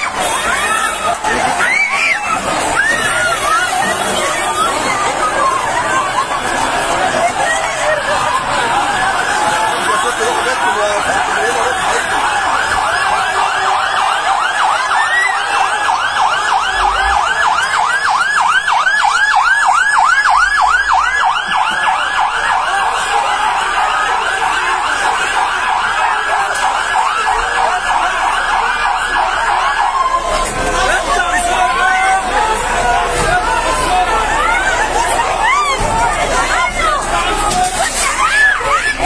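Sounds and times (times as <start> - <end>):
fire engine siren yelping: 0.0 - 39.0.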